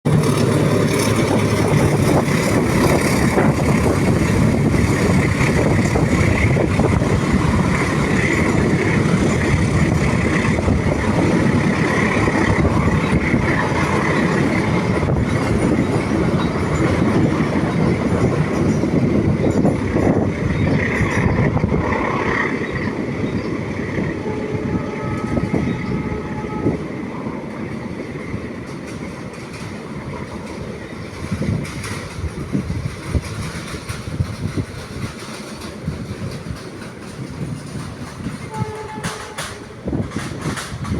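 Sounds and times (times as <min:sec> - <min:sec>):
train wheels rumbling and clattering: 0:00.0 - 0:40.9.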